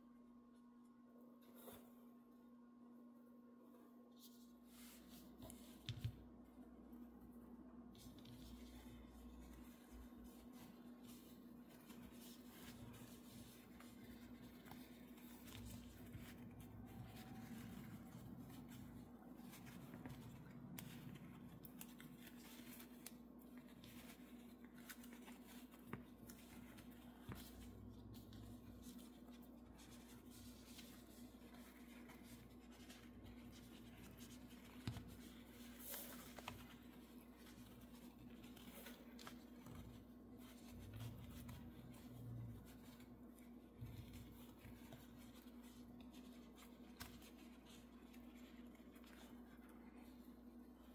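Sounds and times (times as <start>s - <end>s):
low steady hum: 0.0s - 50.9s
rustling and scratching: 7.9s - 50.9s.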